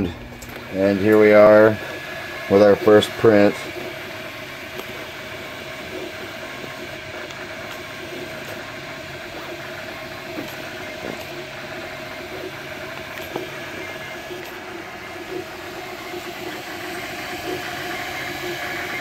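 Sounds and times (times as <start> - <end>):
printer motors whirring: 0.0 - 19.0.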